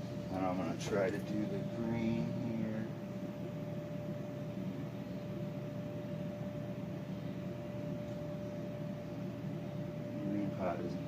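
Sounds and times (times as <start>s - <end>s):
electrical hum: 0.0s - 11.0s
thin constant whine: 0.0s - 11.0s.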